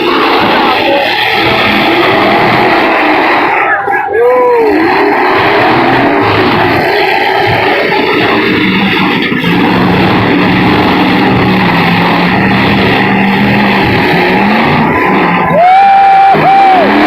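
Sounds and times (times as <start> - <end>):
truck engines running loudly: 0.0 - 17.0.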